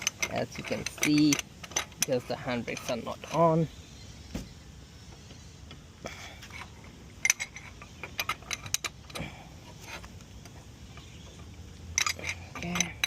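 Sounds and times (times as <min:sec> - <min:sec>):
wheel brace metal clicks: 0:00.0 - 0:03.7, 0:05.1 - 0:13.0.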